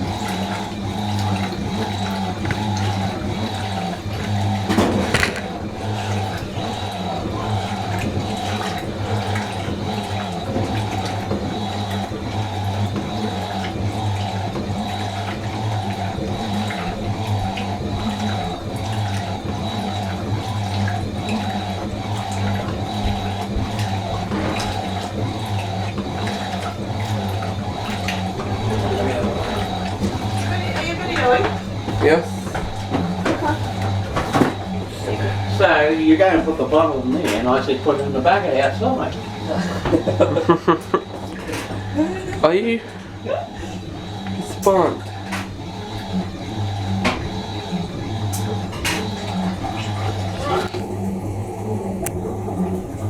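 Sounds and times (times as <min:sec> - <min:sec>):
mechanical hum: 0:00.0 - 0:53.0
water rushing in washing machine: 0:00.0 - 0:53.0.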